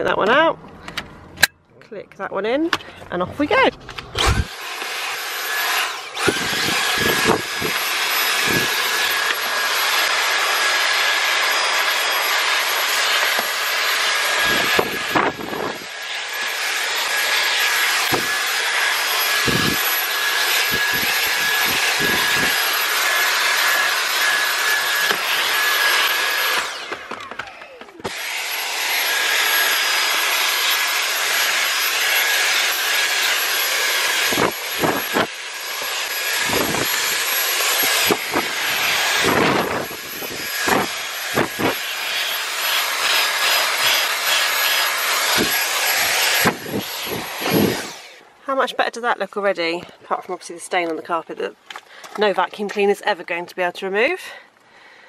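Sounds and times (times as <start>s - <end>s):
vacuum cleaner running: 3.4s - 48.8s.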